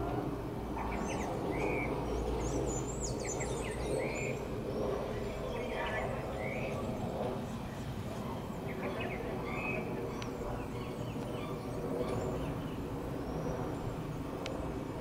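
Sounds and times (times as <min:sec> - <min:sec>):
jet engines passing overhead: 0:00.0 - 0:15.0
birds chirping: 0:00.6 - 0:15.0.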